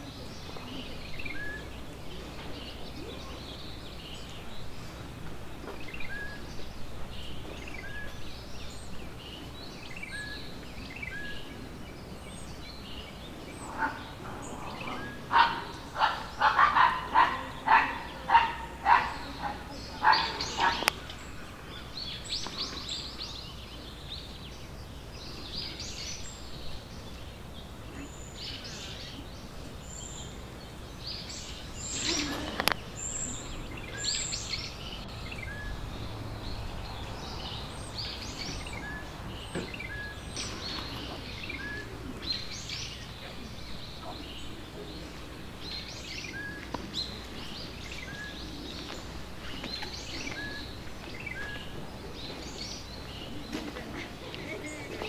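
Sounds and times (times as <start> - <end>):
birds chirping and calling: 0.0 - 55.0
low outdoor hum: 0.0 - 55.0.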